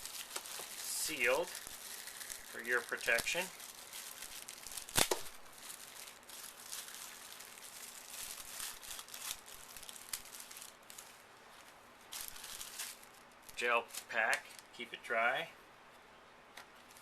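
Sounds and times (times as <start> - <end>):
packaging rustling and crinkling: 0.0 - 14.7.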